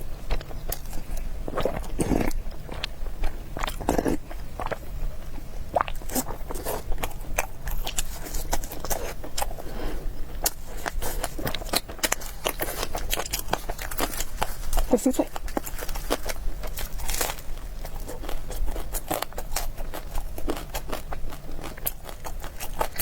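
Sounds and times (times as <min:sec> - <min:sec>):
crunchy food chewing: 0:00.0 - 0:23.0.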